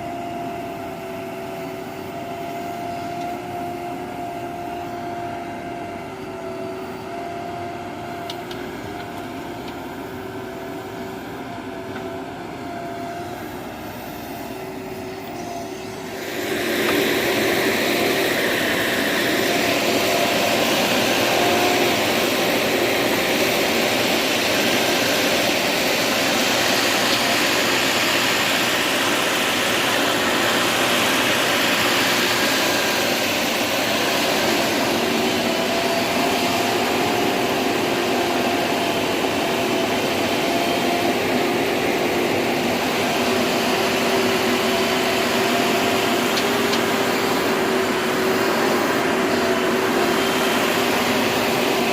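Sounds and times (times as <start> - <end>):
diesel engine droning at high revs: 0.0 - 51.9.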